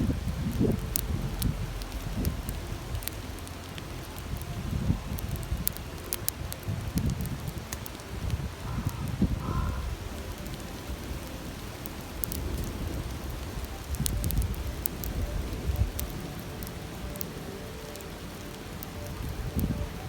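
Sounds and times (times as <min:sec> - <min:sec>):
campfire crackling and popping: 0:00.0 - 0:20.0
stream rushing: 0:00.0 - 0:20.0.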